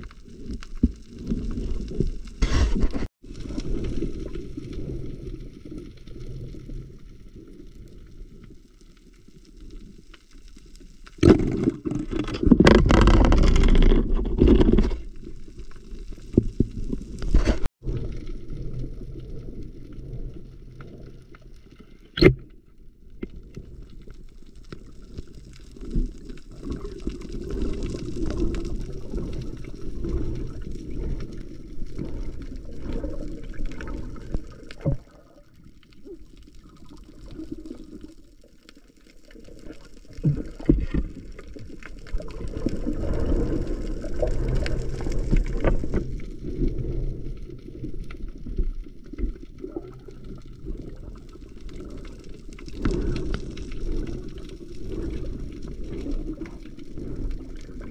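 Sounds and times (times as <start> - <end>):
underwater rush and gurgle: 0.0 - 57.9.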